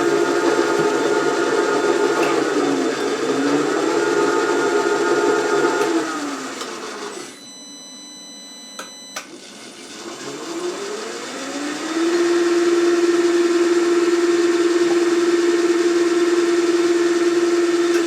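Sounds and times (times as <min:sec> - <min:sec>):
spindle motor whine: 0:00.0 - 0:18.0.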